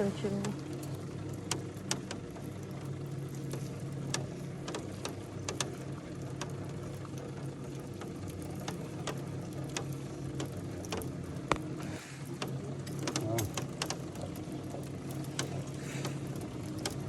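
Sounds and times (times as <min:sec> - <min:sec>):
cable lift humming: 0:00.0 - 0:17.0
light clicks and ticks: 0:00.0 - 0:17.0.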